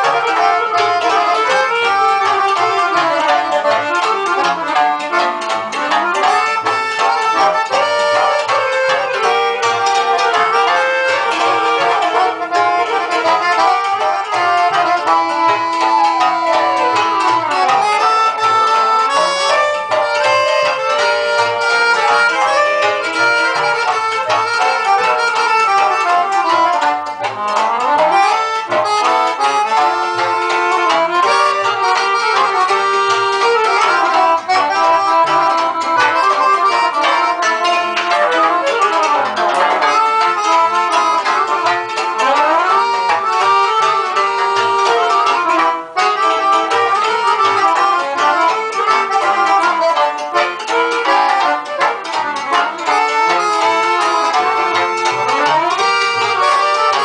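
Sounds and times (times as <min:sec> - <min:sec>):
accordion melody: 0:00.0 - 0:57.0
cimbalom: 0:00.0 - 0:57.0.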